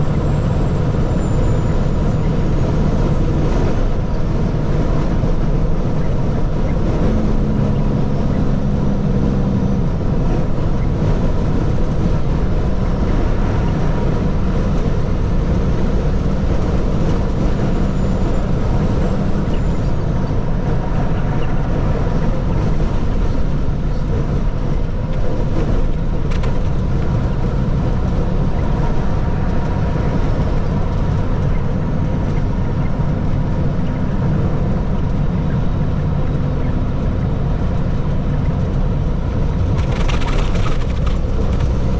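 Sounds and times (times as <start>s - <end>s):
road noise: 0.0s - 41.9s
truck engine running: 0.0s - 41.9s.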